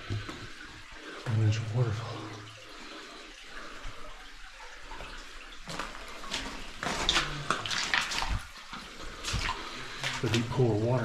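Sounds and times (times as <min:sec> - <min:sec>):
waterfall splashing and trickling: 0:00.0 - 0:11.0.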